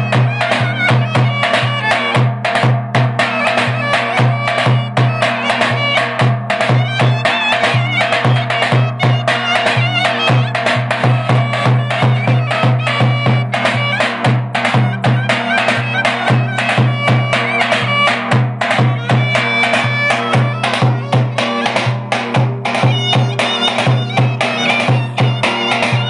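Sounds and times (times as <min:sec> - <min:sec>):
clarinet wailing melody: 0:00.0 - 0:02.3, 0:03.2 - 0:26.0
bass drum beating: 0:00.0 - 0:26.0.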